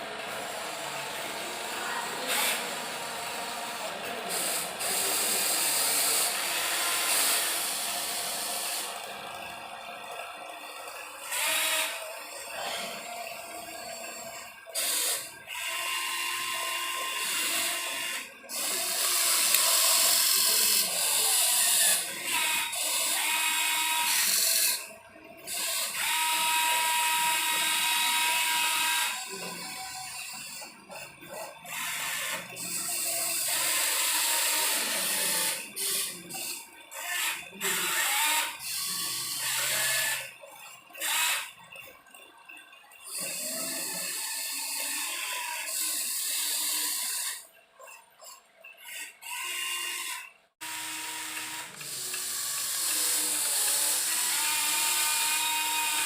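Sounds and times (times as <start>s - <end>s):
small electric motors whirring: 0.0s - 56.0s.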